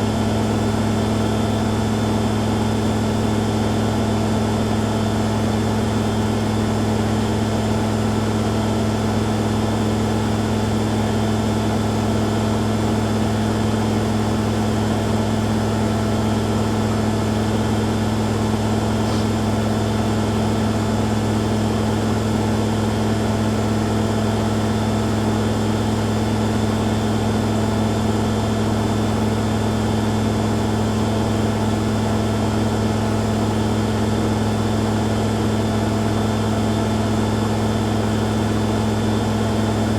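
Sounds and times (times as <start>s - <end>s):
washing machines spinning: 0.0s - 39.9s.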